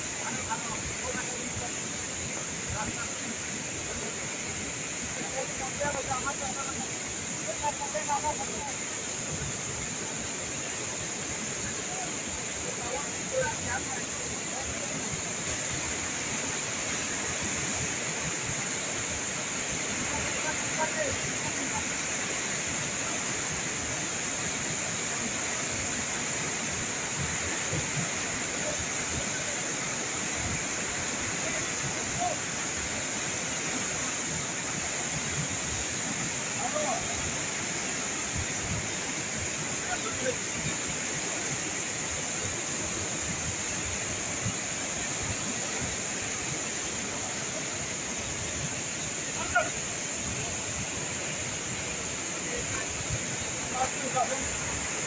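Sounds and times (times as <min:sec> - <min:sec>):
steady high hiss: 0:00.0 - 0:55.0
waterfall torrent rushing: 0:00.0 - 0:55.0.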